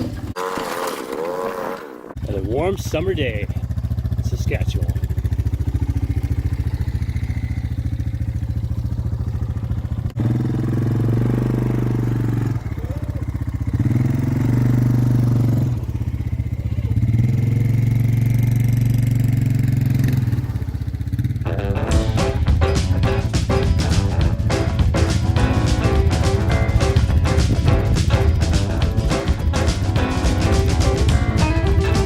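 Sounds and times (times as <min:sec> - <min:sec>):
snowmobile engine revving: 0:00.0 - 0:05.0, 0:10.2 - 0:32.0.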